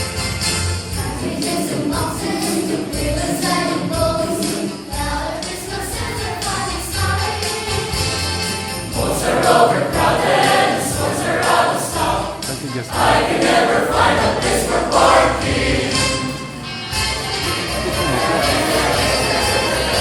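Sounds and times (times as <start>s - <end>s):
jingle bells shaking: 0.0s - 13.7s, 17.0s - 20.0s
instrumental accompaniment: 0.0s - 20.0s
choir singing upbeat song: 0.2s - 20.0s.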